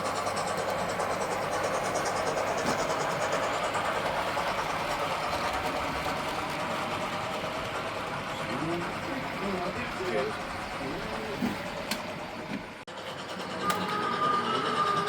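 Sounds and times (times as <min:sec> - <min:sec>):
model train motor and wheels: 0:00.0 - 0:15.0.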